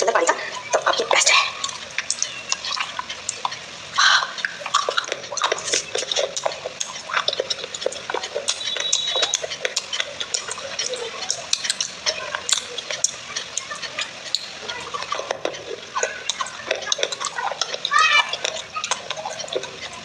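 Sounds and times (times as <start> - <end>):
fingers squishing wet clay: 2.0 - 20.0.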